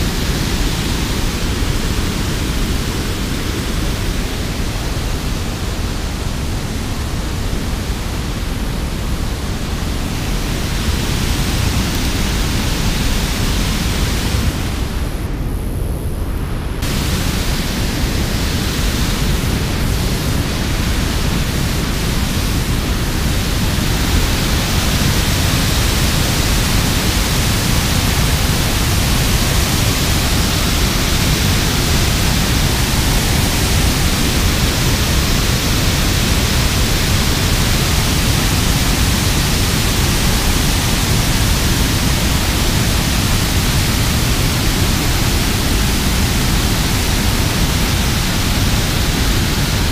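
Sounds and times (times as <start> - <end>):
water rushing over spillway: 0.0 - 15.2, 16.8 - 49.9.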